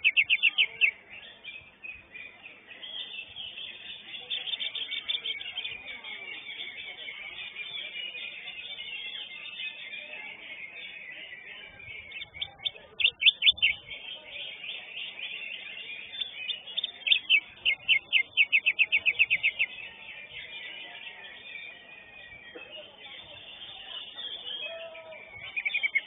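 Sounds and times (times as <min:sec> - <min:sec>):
bird singing sharp notes: 0:00.0 - 0:26.0
other birds chattering: 0:00.0 - 0:26.0.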